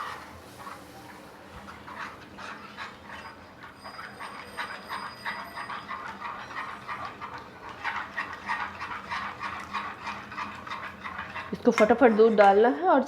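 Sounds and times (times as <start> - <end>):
spoon scraping in a pan: 0.0 - 13.0.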